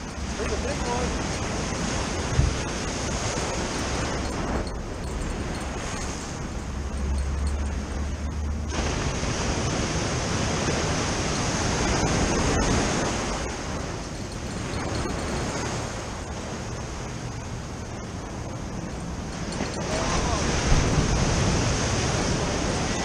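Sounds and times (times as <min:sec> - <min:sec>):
waves breaking against seawall: 0:00.0 - 0:23.0.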